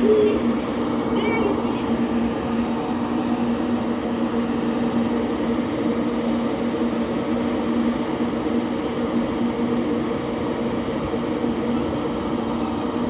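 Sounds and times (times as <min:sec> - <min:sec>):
electric train hum and rumble: 0:00.0 - 0:13.0.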